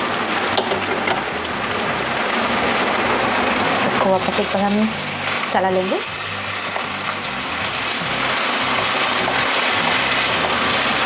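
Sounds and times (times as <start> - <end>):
background music with low notes: 0.0 - 11.0
curry sizzling in a frying pan: 0.0 - 11.0.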